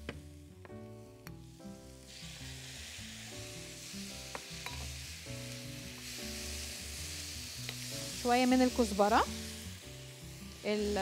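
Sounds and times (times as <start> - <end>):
soft background music: 0.0 - 11.0
food sizzling in a frying pan: 0.2 - 11.0.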